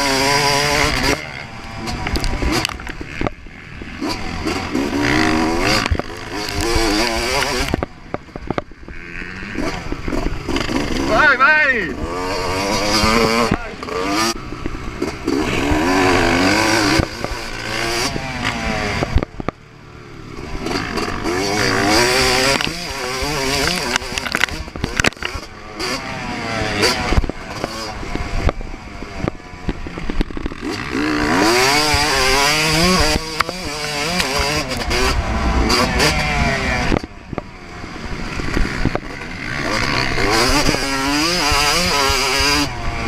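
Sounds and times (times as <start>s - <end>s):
motocross engine revving: 0.0s - 43.0s.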